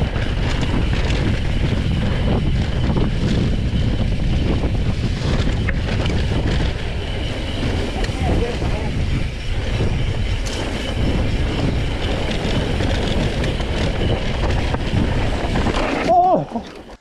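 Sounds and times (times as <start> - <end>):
bike knocks and rattles: 0.0 - 17.0
bike tyres rumbling on dirt: 0.0 - 17.0
wind on microphone: 0.0 - 17.0.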